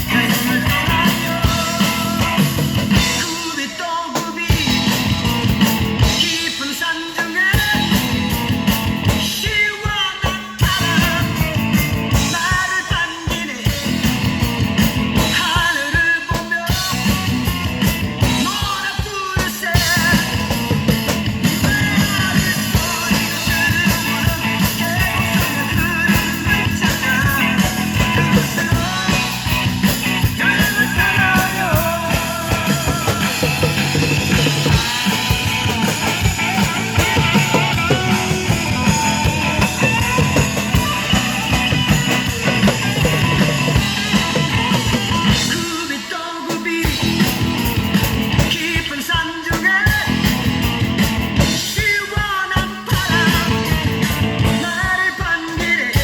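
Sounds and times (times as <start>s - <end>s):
man singing: 0.0s - 50.8s, 51.4s - 56.0s
drum kit beat: 0.0s - 56.0s
guitar: 0.0s - 56.0s.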